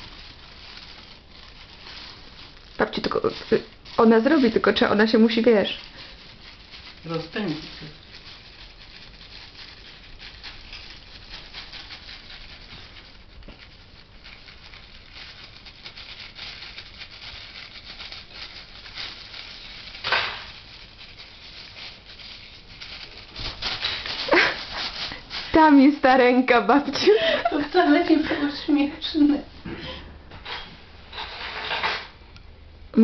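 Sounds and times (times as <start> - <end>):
plastic bag crinkling: 0.0 - 32.2.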